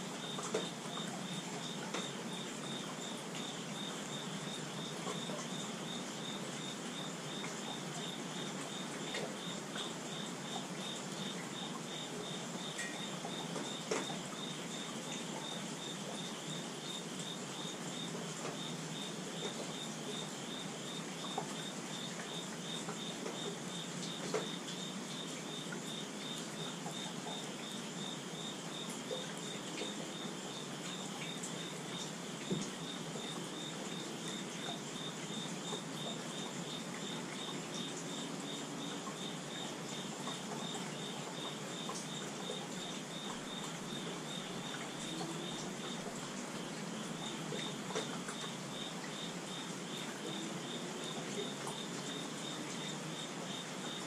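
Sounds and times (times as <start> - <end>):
rain on wooden deck: 0.0 - 54.0
insect chirping: 0.1 - 54.0.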